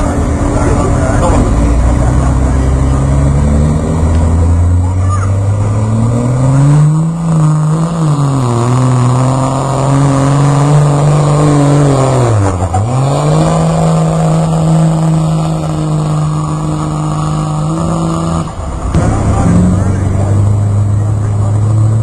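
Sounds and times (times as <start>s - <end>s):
truck engine at full throttle: 0.0s - 22.0s.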